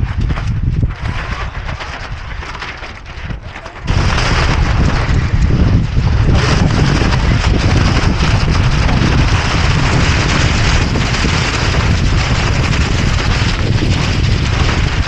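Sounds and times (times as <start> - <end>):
water washing against hull: 0.0 - 15.0
wind buffeting microphone: 0.0 - 15.0.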